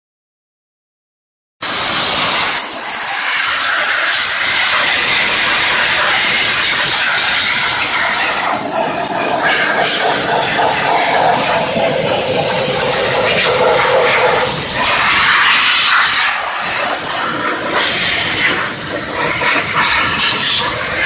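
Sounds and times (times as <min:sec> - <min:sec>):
steam jet hissing: 0:01.6 - 0:21.0.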